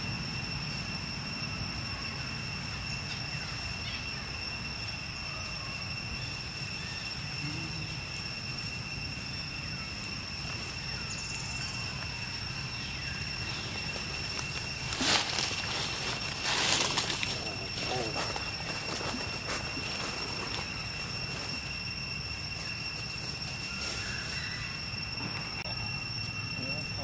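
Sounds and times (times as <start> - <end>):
constant high-pitched whine: 0.0 - 27.0
faint chirps: 0.0 - 27.0.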